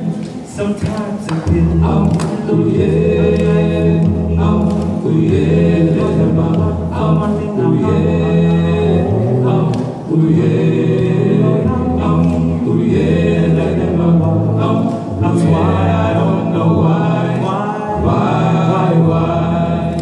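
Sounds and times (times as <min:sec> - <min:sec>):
a cappella group singing: 0:00.0 - 0:20.0.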